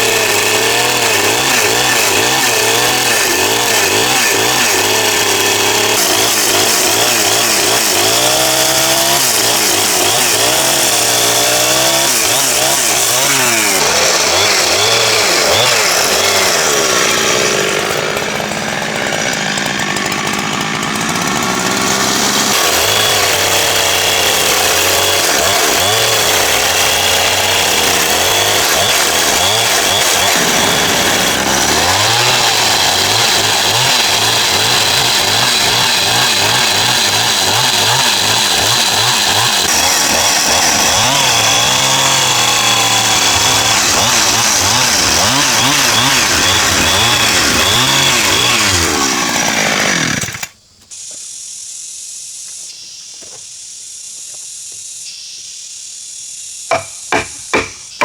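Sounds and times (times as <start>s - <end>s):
chainsaw cutting timber: 0.0s - 50.6s, 56.7s - 58.0s.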